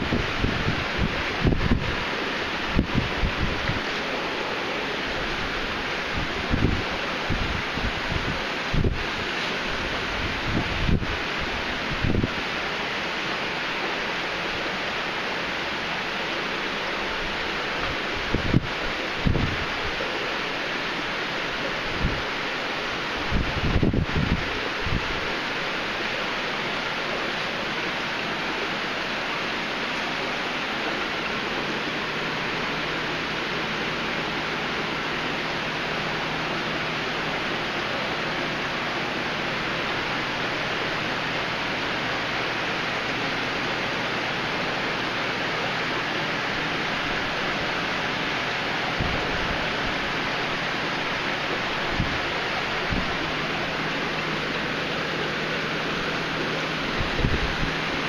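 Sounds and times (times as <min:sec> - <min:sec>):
aquarium filter water bubbling: 0:00.0 - 0:58.0.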